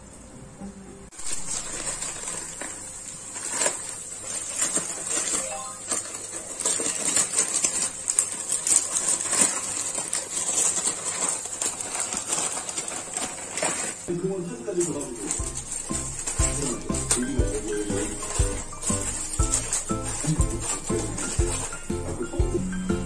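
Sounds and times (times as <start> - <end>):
plastic packet crinkling: 1.1 - 23.0
scissors snipping plastic: 1.2 - 14.0, 14.8 - 21.9.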